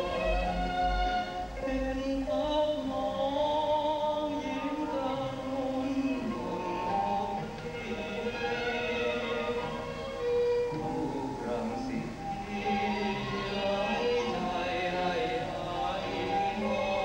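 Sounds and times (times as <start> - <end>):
quiet accompaniment: 0.0 - 17.0.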